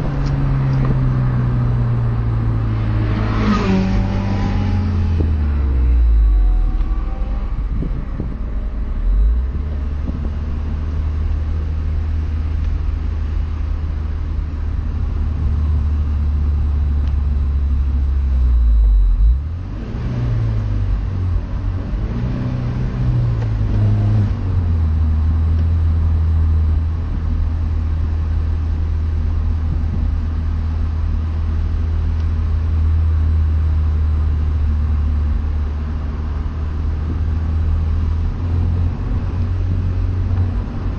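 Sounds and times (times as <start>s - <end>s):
car engine drone: 0.0s - 40.9s.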